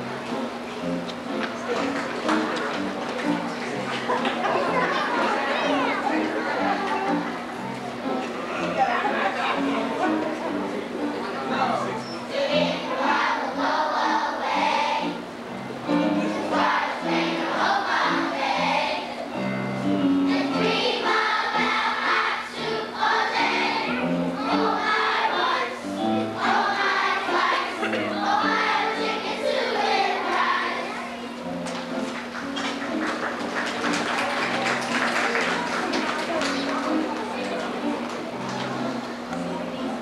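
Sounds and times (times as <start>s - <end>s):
children's choir singing: 0.0s - 32.6s
piano: 0.0s - 40.0s.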